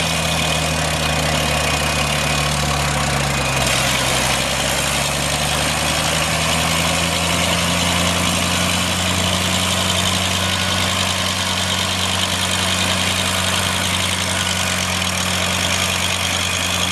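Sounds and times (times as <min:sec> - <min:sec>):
engine idling: 0:00.0 - 0:16.9.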